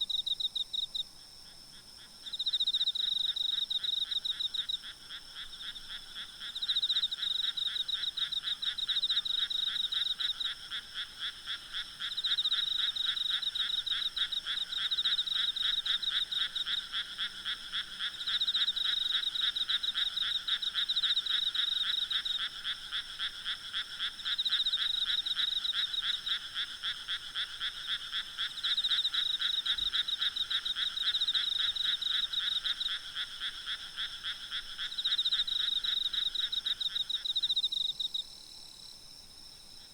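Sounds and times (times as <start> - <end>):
frogs croaking in trills: 0.0 - 39.9
insects droning: 0.0 - 39.9.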